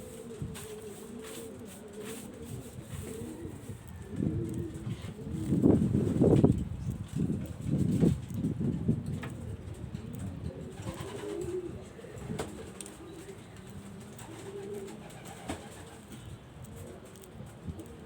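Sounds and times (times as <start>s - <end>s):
pigeons cooing: 0.0s - 8.6s, 9.3s - 18.0s.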